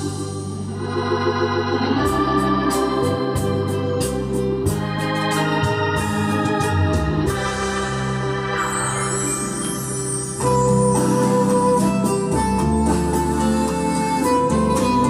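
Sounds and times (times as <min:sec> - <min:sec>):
music through speakers: 0:00.0 - 0:15.0.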